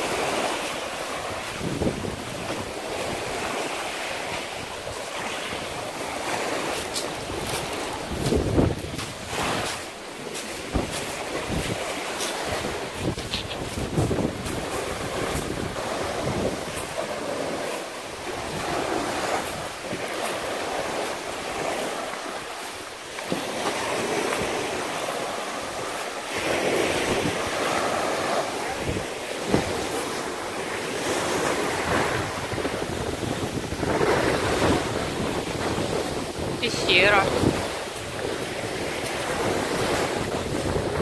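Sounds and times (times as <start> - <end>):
small waves breaking on beach: 0.0 - 41.0
wind buffeting microphone: 1.2 - 22.7, 23.4 - 41.0.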